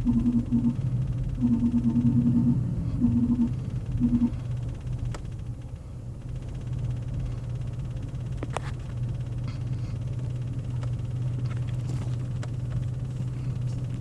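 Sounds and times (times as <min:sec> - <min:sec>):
faint engine ticks: 0:00.0 - 0:14.0
truck engine idling: 0:00.0 - 0:14.0.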